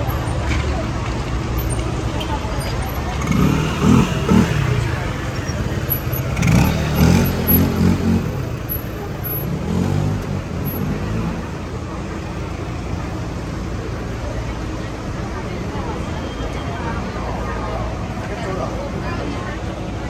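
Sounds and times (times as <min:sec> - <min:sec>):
passers-by talking: 0:00.0 - 0:20.0
vehicle engine rumble: 0:00.0 - 0:20.0.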